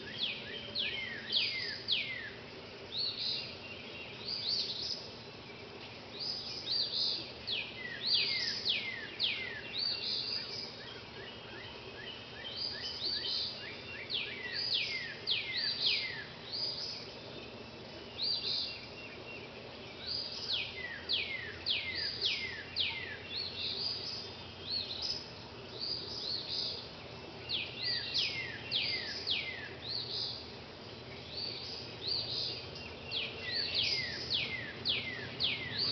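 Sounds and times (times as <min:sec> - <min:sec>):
songbirds singing: 0:00.0 - 0:35.9.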